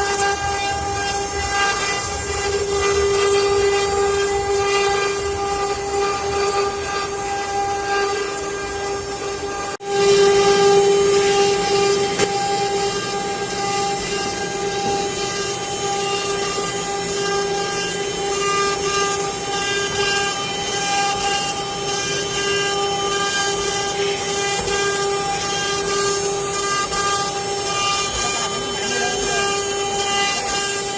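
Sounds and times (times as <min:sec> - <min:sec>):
router spindle whine: 0:00.0 - 0:30.9.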